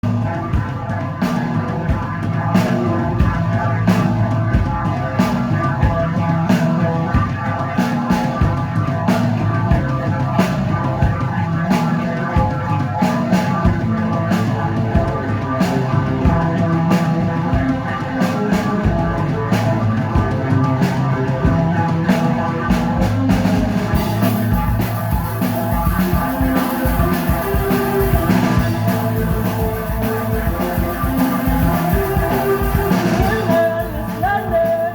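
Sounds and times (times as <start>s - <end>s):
rock band playing live: 0.0s - 34.9s.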